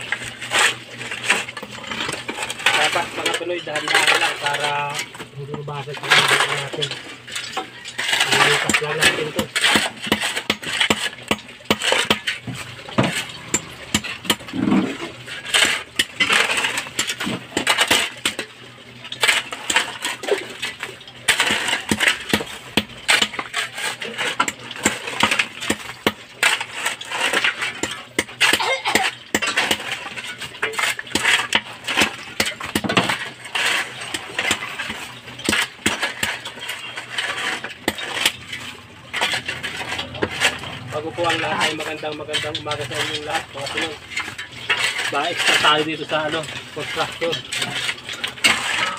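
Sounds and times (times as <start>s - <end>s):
metal tool chipping cement: 0.0s - 48.9s.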